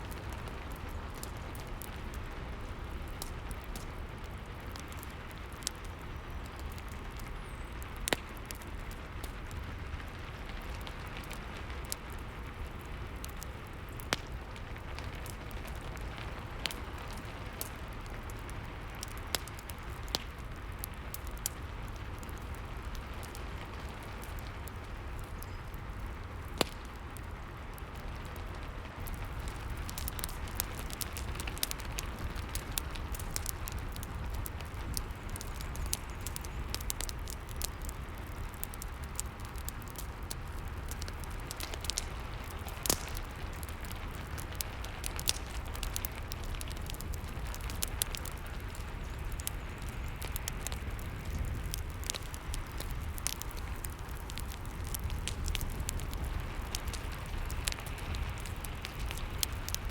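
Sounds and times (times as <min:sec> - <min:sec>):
steady rain: 0:00.0 - 0:59.9
wood fire crackling and popping: 0:00.0 - 0:59.9.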